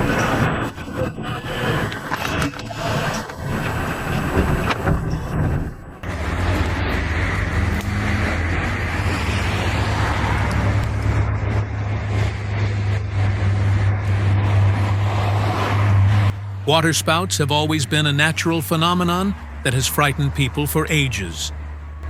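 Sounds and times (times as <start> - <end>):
road vehicle hum and hiss: 0.0 - 22.0.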